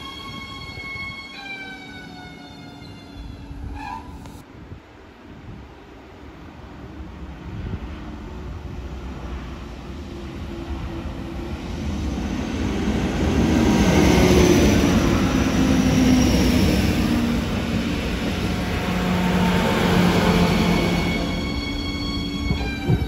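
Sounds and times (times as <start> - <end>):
train engine and wheel noise: 0.0 - 23.0.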